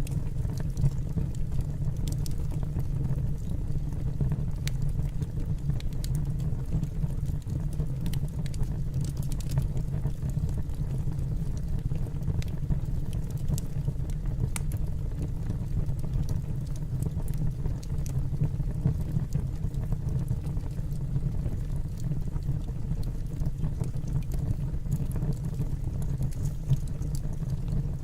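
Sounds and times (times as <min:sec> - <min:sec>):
fire crackling in fireplace: 0:00.0 - 0:28.0.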